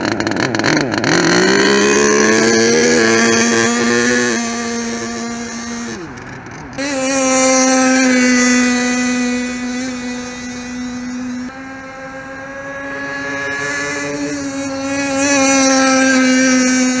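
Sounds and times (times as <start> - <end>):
model truck engine whining: 0.0 - 17.0.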